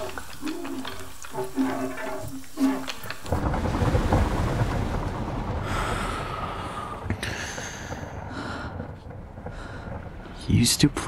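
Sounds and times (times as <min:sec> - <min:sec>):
car wash rumbling: 0:01.8 - 0:11.0.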